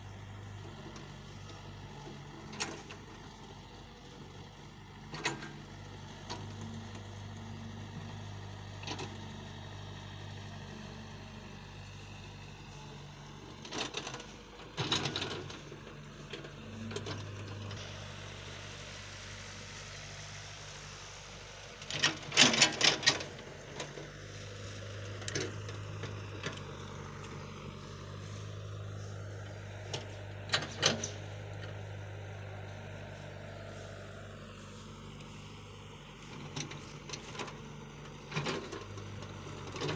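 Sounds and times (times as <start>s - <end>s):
excavator motor running: 0.0s - 39.9s.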